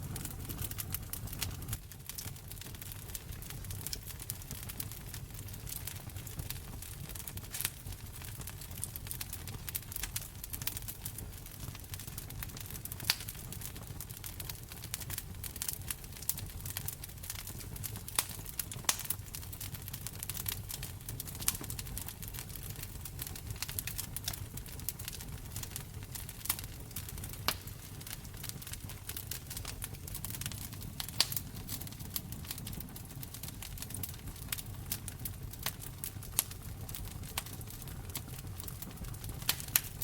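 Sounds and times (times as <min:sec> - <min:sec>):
low rumble of flames: 0:00.0 - 0:40.0
wood fire popping and snapping: 0:00.0 - 0:40.0.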